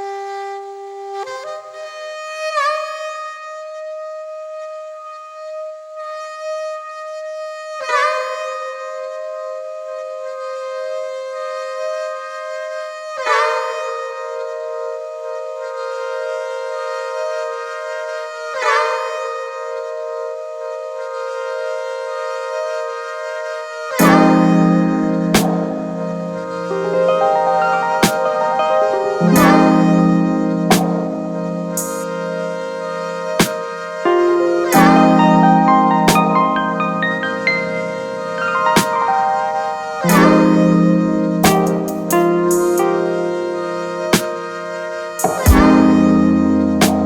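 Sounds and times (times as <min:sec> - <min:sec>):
reedy wind instrument long notes: 0:00.0 - 0:47.0.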